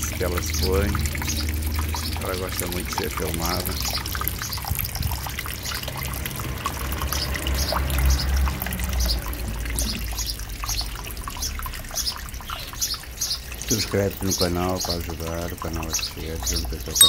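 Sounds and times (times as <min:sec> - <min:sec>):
fountain water splashing: 0:00.0 - 0:16.4.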